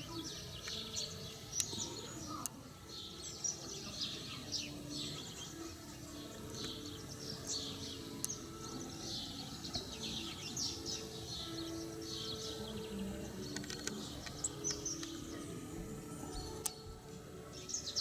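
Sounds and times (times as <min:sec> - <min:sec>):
songbirds chirping and twittering: 0:00.0 - 0:18.0.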